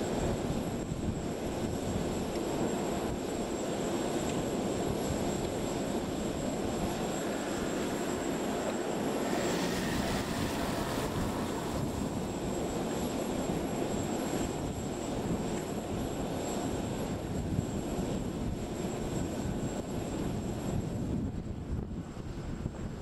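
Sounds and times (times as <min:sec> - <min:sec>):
jet engines rumbling: 0:00.0 - 0:22.5.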